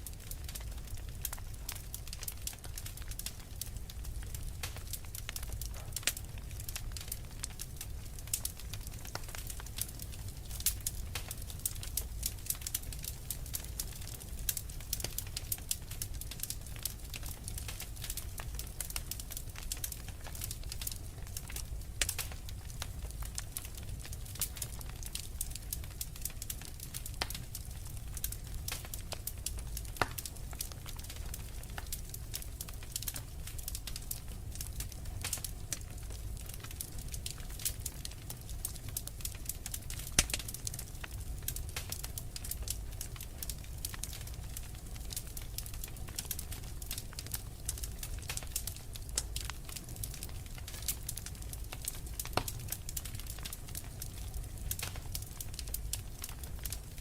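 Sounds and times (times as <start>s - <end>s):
fire crackling: 0.0s - 57.0s.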